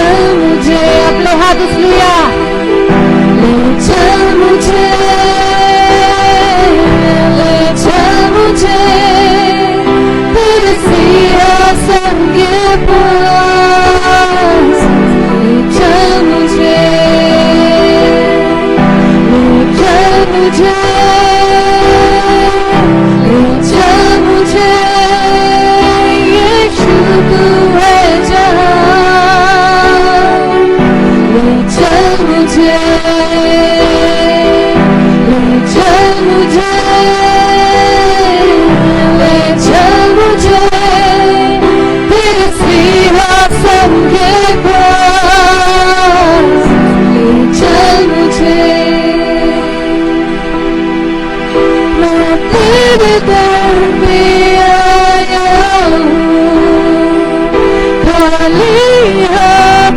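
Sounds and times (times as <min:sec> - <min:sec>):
person singing long notes: 0:00.0 - 0:59.9
sustained keyboard chords: 0:00.0 - 0:59.9.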